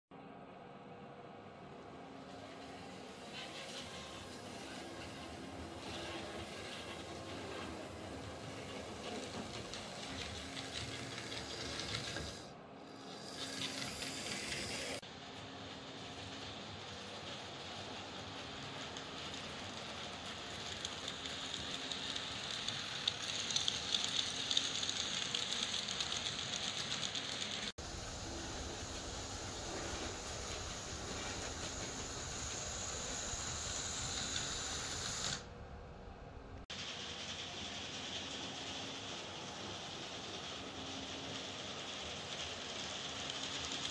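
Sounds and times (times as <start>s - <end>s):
model train running on track: 1.8s - 35.5s, 36.7s - 43.9s.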